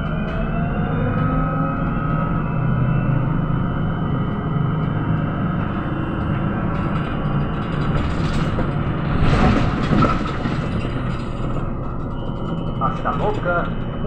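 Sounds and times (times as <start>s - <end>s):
trolleybus rumble and road noise: 0.0s - 14.0s.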